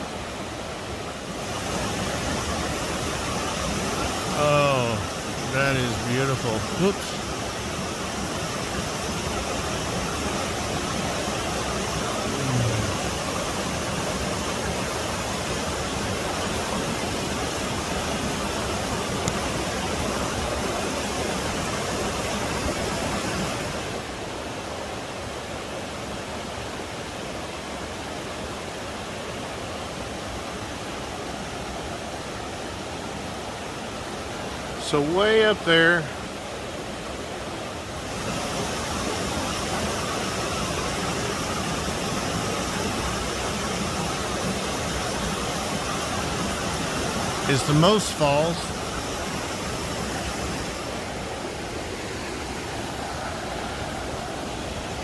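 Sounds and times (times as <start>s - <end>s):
waterfall rushing: 0.0s - 24.2s, 33.5s - 55.0s.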